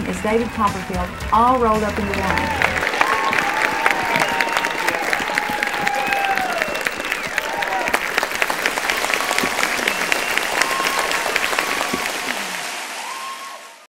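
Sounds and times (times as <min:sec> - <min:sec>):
large audience applauding: 0:00.0 - 0:13.9.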